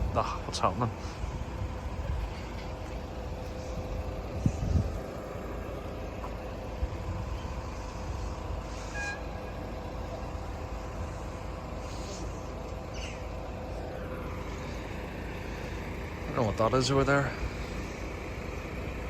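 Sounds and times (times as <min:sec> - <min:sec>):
low rumble of road vehicles: 0:00.0 - 0:19.0
steady hum: 0:00.0 - 0:19.0.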